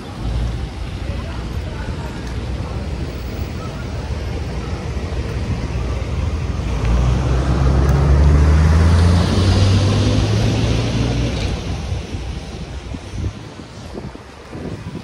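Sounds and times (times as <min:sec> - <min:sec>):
motor vehicle engine hum: 0:00.0 - 0:15.0
street roar: 0:00.0 - 0:15.0.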